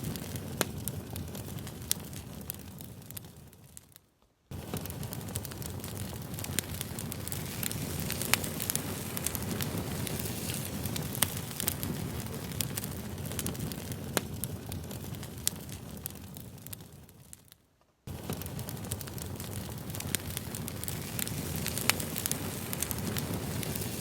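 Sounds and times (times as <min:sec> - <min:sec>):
burning wood crackling and popping: 0:00.0 - 0:24.0
flames rustling: 0:00.0 - 0:24.0.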